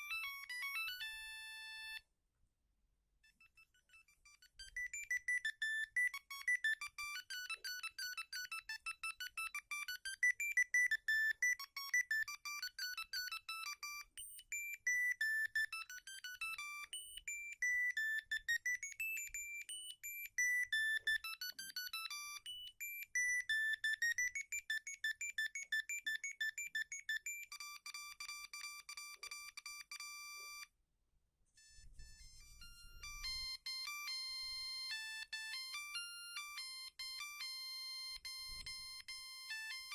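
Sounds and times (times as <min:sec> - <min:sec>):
mobile phone ringtone melody: 0:00.0 - 0:02.1, 0:03.2 - 0:30.7, 0:31.5 - 0:39.9.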